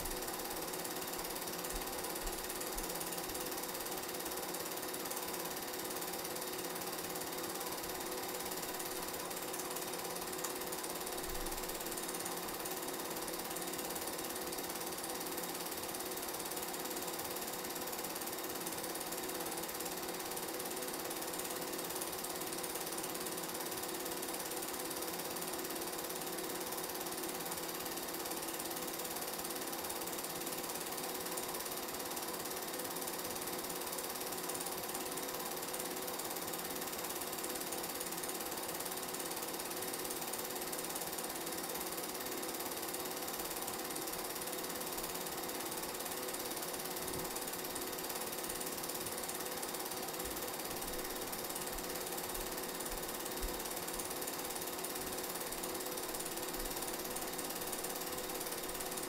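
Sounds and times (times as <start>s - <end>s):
film projector clattering: 0.0s - 59.0s.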